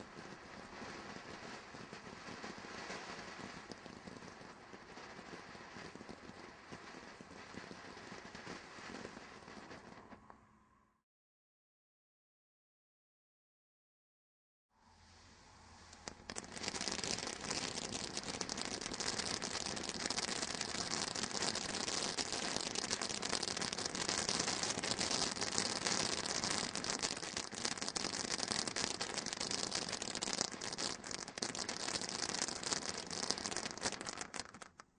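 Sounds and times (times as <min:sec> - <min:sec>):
firework fountain hissing and crackling: 0:00.0 - 0:10.3, 0:15.0 - 0:34.9.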